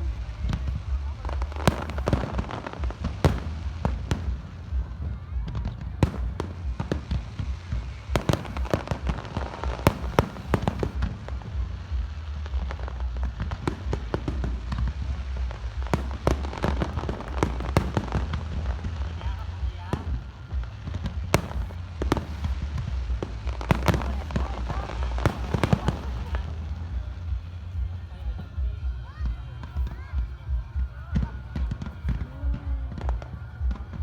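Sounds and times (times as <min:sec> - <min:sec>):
constant low rumble: 0:00.0 - 0:34.0
firework bangs and crackles: 0:00.0 - 0:34.0.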